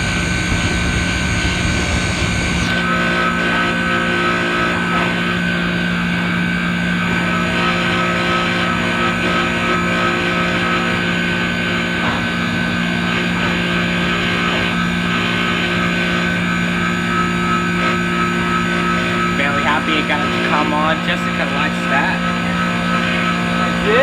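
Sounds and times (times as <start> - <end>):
ice machine humming: 0.0 - 24.0.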